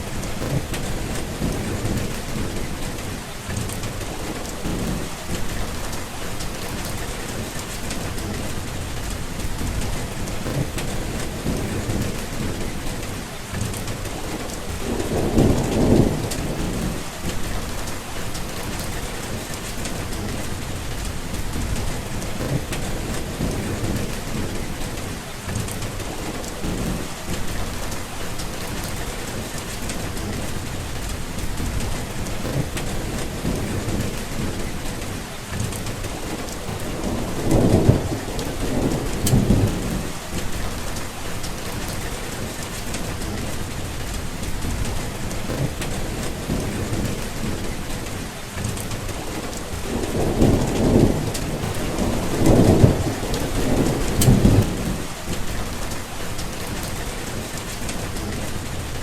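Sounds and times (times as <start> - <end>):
rolling thunder: 0.0 - 59.0
steady rain: 0.0 - 59.0.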